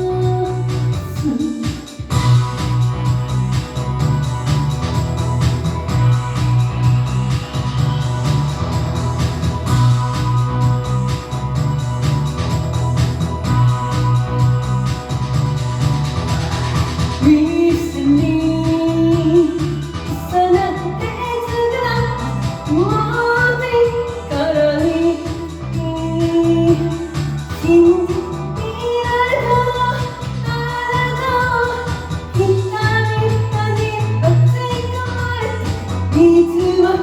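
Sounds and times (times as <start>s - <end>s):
karaoke backing track: 0.0s - 37.0s
woman singing pop song: 0.0s - 37.0s.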